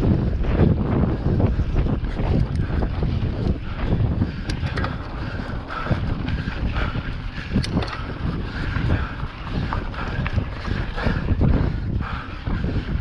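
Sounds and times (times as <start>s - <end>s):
bike clicks and rattles: 0.0s - 13.0s
wind buffeting microphone: 0.0s - 13.0s.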